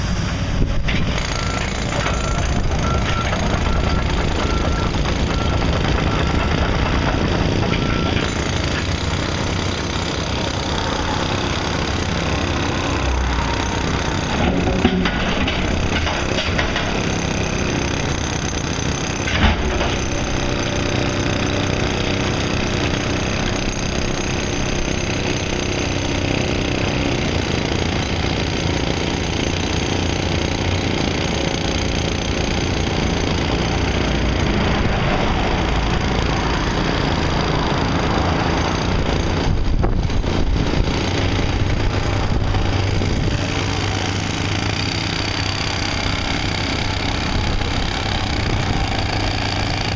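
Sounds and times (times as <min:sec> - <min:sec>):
heavy construction machinery running: 0:00.0 - 0:49.9.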